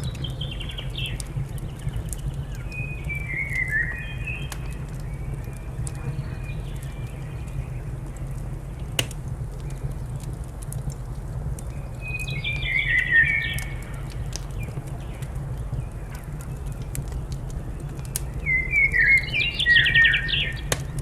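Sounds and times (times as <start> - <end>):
small birds chirping: 0.0 - 10.4, 11.5 - 21.0
wood fire crackling and popping: 0.0 - 21.0.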